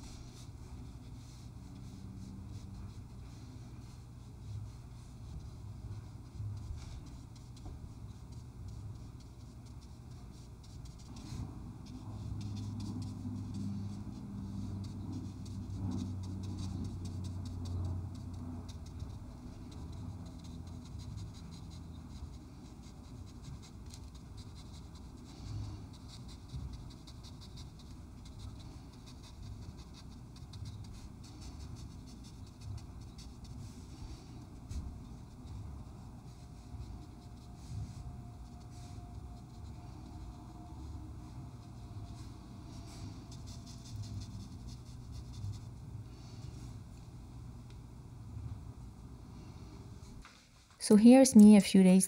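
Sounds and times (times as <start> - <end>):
paintbrush stroking on paper: 0.0 - 47.3
low steady hum: 0.0 - 52.0.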